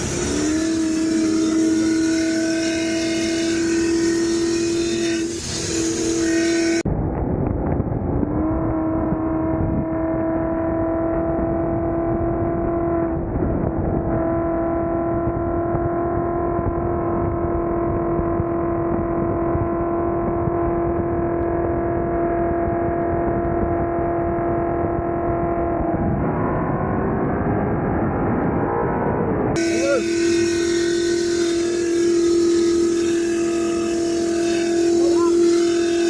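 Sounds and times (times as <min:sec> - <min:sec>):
car engine drone: 0:00.0 - 0:36.0
road rumble: 0:00.0 - 0:36.0.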